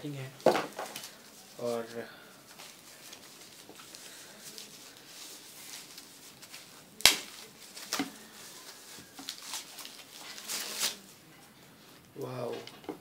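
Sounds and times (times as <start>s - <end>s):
packaging rustling and scraping: 0.4s - 11.2s.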